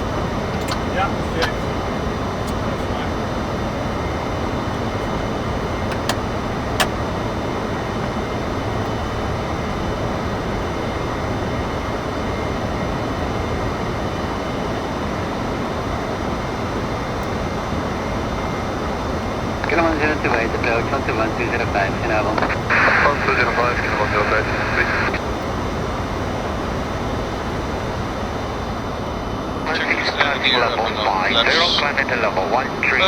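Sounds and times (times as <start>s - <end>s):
airflow and engine noise: 0.0s - 33.0s.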